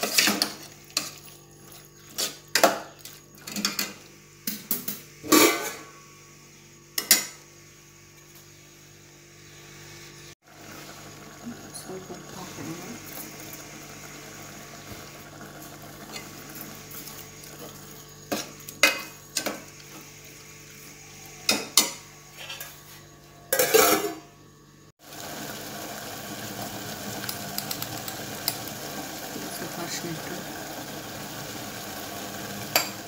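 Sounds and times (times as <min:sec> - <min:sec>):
food sizzling in oil: 0:00.0 - 0:04.4, 0:06.9 - 0:22.4, 0:25.0 - 0:33.0.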